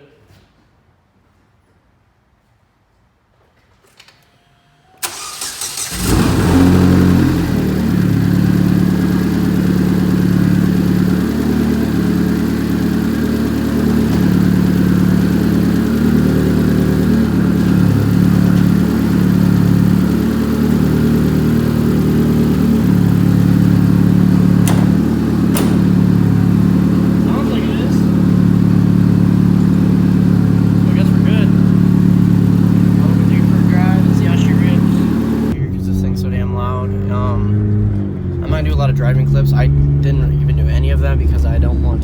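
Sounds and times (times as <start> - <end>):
car engine cranking and idling: 5.0 - 42.0.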